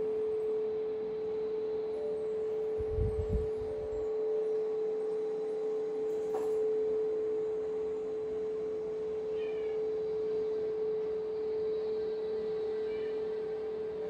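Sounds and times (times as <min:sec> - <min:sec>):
pure tone drone: 0:00.0 - 0:14.0.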